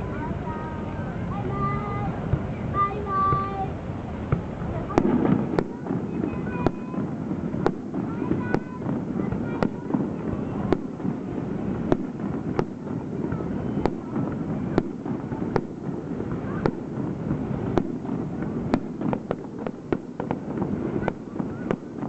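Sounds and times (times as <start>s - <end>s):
firework shells bursting: 4.3s - 22.0s.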